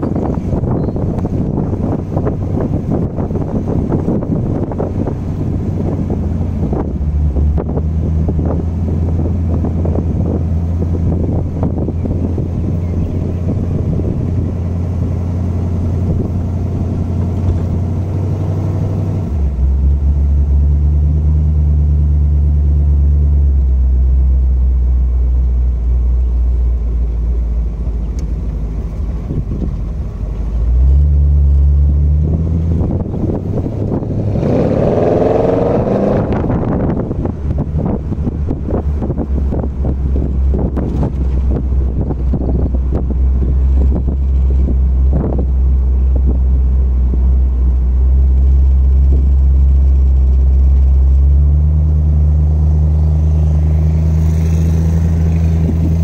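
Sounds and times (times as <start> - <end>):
car engine droning while driving: 0.0 - 56.0.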